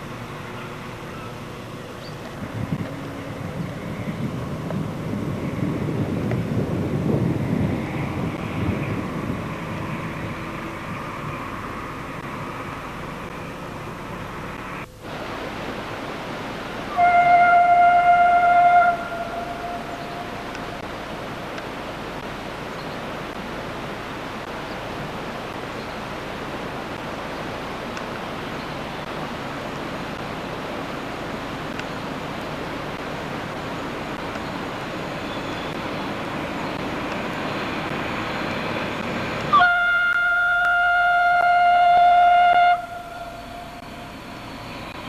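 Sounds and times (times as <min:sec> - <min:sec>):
train rushing along tracks: 0:00.0 - 0:45.0.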